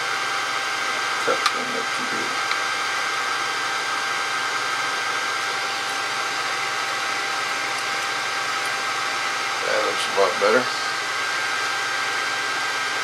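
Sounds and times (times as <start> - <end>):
air blower whirring: 0.0 - 13.0
faint steady whine: 0.0 - 13.0.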